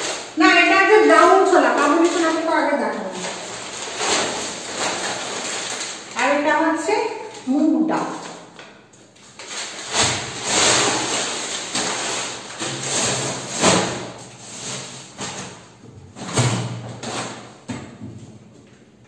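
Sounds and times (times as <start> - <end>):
plastic packets rustling: 0.0 - 15.8.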